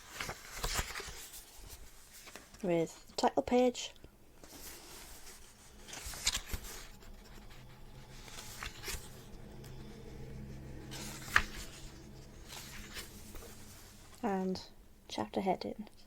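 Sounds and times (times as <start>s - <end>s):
book pages being turned: 0.0s - 3.2s, 4.4s - 14.4s.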